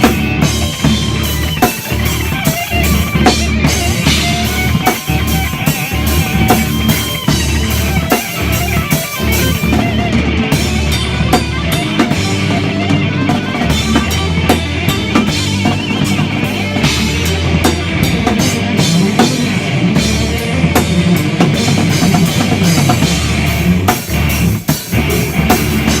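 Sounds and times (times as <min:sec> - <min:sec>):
bass line: 0:00.0 - 0:26.0
drum kit with cymbals: 0:00.0 - 0:26.0
guitar: 0:00.0 - 0:26.0
rock band playing: 0:00.0 - 0:26.0.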